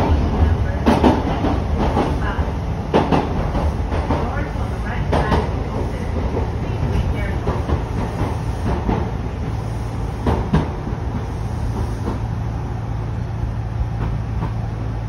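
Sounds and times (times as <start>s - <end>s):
train interior hum and rumble: 0.0s - 15.0s.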